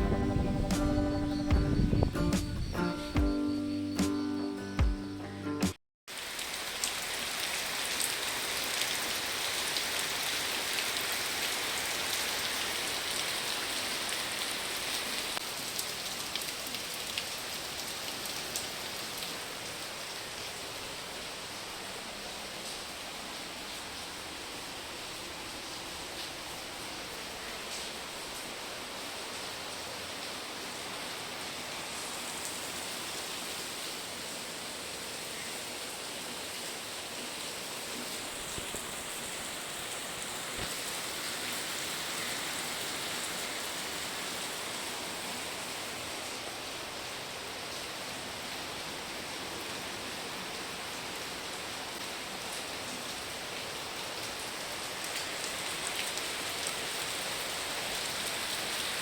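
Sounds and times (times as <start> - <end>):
heavy rain falling: 0.0 - 2.3, 6.1 - 59.0.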